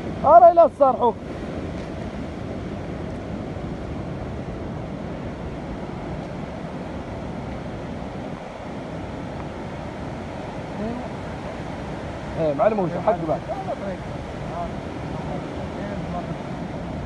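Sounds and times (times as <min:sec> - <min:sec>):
ocean surf churning: 0:00.0 - 0:17.0
wind buffeting microphone: 0:00.0 - 0:17.0.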